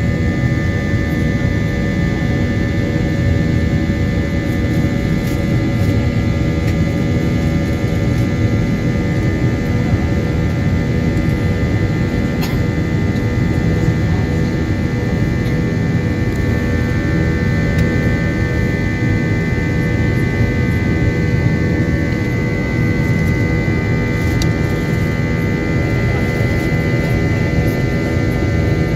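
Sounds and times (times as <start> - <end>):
high engine whine: 0.0 - 28.9
jet engine rumble in cabin: 0.0 - 28.9.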